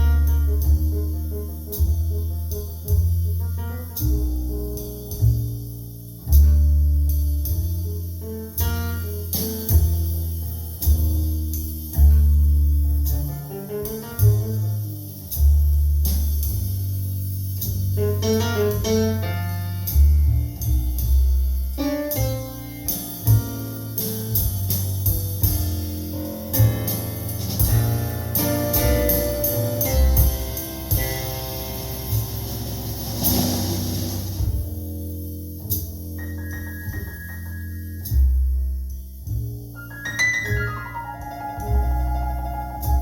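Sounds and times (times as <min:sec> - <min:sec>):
piano line: 0:00.0 - 0:16.0, 0:18.0 - 0:34.8, 0:36.1 - 0:43.0
deep bass notes: 0:00.0 - 0:43.0.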